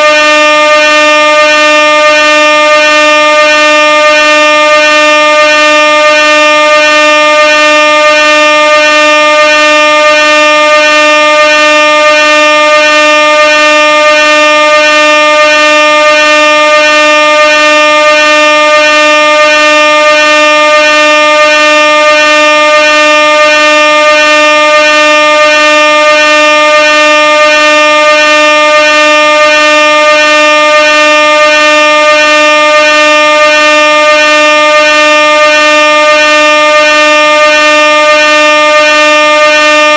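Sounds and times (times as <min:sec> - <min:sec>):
air horn blast: 0:00.0 - 0:39.9.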